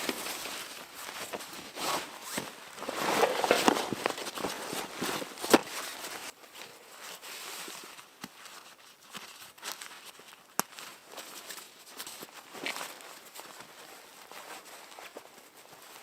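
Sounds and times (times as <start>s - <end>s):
rustling and crunching handling: 0.0s - 16.0s.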